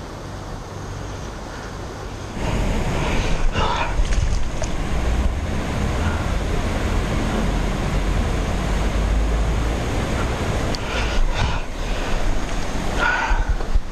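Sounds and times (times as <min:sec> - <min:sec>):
river water rushing: 0:02.2 - 0:13.9
wind rumble on microphone: 0:02.3 - 0:13.9.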